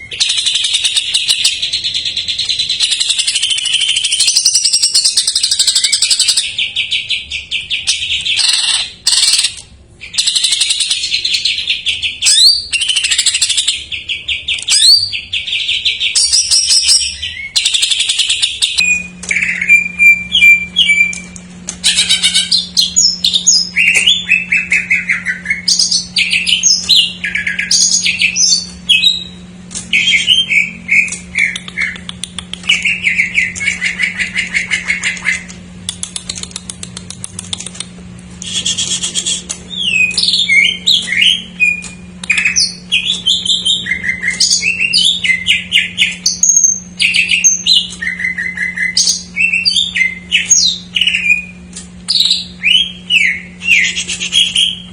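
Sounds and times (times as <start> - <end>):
bird singing fast trills: 0.0 - 35.5, 39.0 - 54.9
low steady hum: 0.0 - 54.9.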